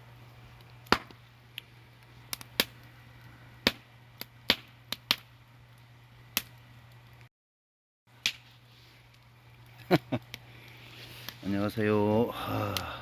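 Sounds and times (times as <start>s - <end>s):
steady low hum: 0.0s - 7.3s, 8.1s - 13.0s
wood fire crackling: 0.0s - 7.3s, 8.1s - 13.0s.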